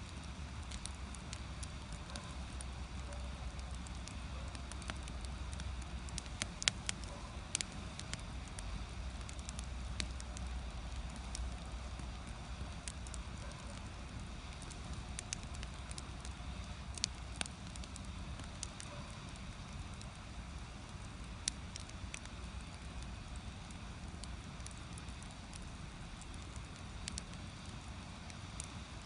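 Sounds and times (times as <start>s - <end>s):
firewood crackling and popping: 0.0s - 29.0s
low rumble of fire: 0.0s - 29.0s.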